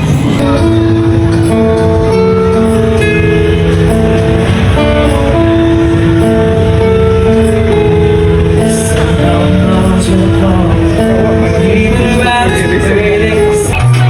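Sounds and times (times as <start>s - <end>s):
melody of held notes: 0.0s - 14.0s
plucked guitar: 0.0s - 14.0s.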